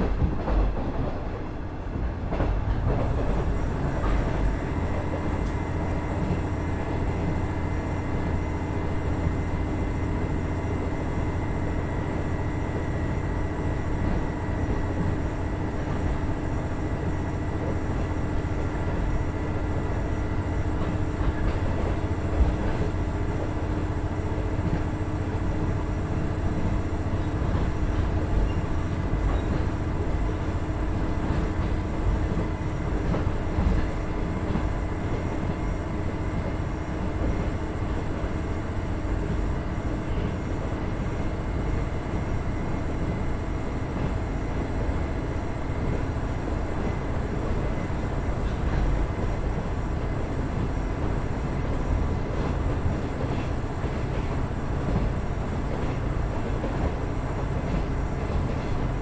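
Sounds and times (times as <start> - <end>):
railcar engine and wheels rumbling: 0.0 - 59.0.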